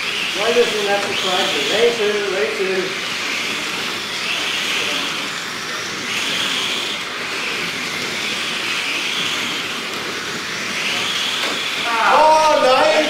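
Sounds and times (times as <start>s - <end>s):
slot car motors whining: 0.0s - 13.0s.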